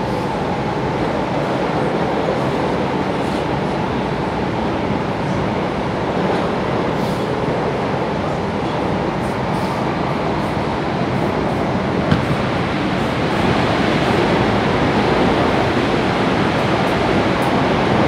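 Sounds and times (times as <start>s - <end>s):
subway train running through tunnel: 0.0s - 18.0s.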